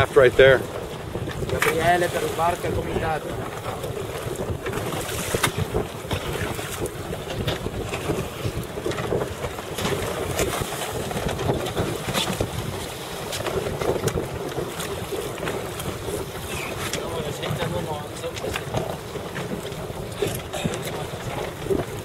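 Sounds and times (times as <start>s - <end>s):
water splashing against boat hulls: 0.0s - 22.0s
wind buffeting microphone: 0.0s - 22.0s.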